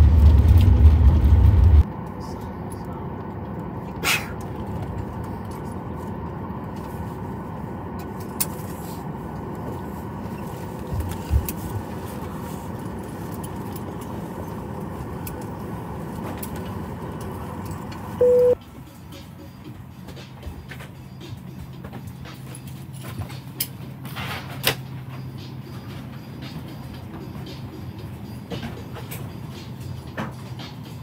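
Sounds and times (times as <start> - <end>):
airplane cabin hum: 0.0 - 31.0.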